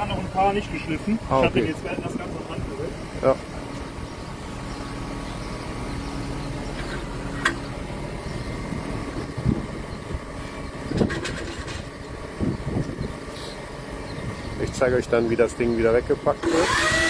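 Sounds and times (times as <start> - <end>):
tractor engine idling: 0.0 - 16.9.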